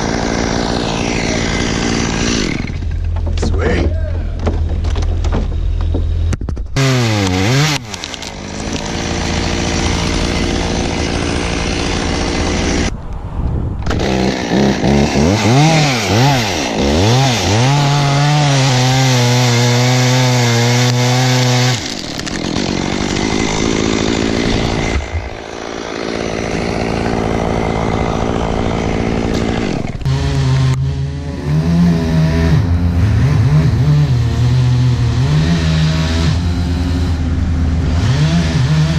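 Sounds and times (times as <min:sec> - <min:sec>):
chainsaw engine revving: 0:00.0 - 0:03.0, 0:06.8 - 0:12.9, 0:13.9 - 0:38.9.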